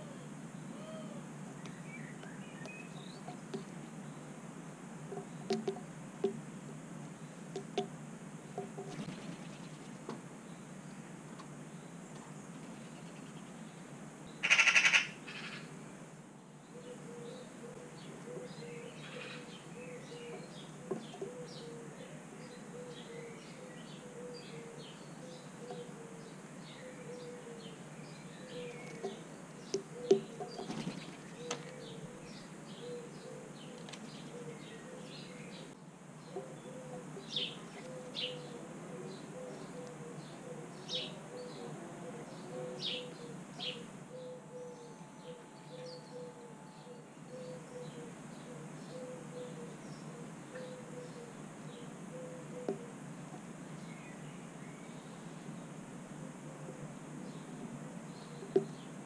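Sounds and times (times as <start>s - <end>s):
low outdoor hum: 0.0s - 14.5s, 15.1s - 59.0s
small birds chirping: 0.0s - 15.8s, 16.4s - 55.8s.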